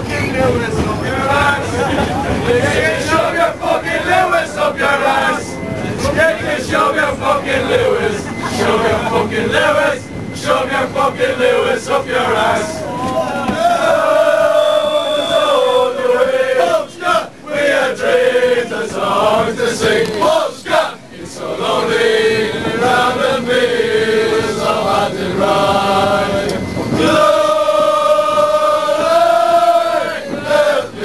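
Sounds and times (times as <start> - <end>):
crowd of men chanting: 0.5 - 31.0.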